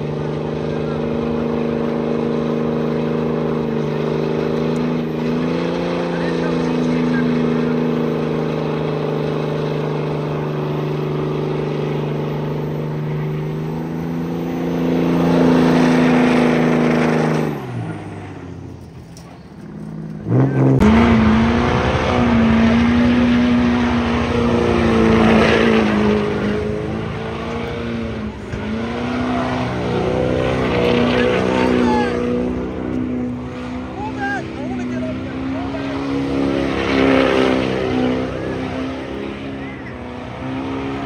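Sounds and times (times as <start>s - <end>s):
car engine running: 0.0s - 41.0s
louder engine revving: 0.0s - 41.0s.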